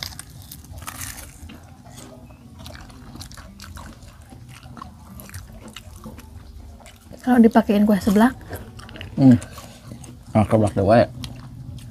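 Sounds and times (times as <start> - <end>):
people chewing crispy food: 0.0 - 11.9.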